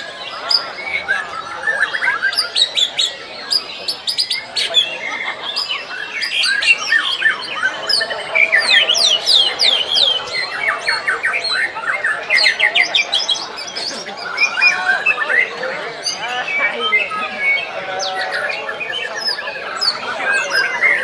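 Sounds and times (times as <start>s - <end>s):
birds singing whistles and trills: 0.0s - 21.0s.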